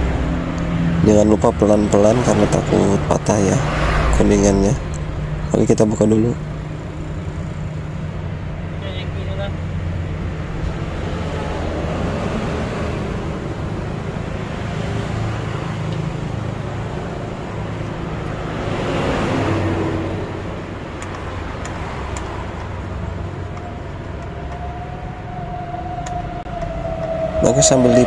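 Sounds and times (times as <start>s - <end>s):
road traffic rumble: 0.0s - 28.0s
vehicle passing: 0.0s - 28.0s.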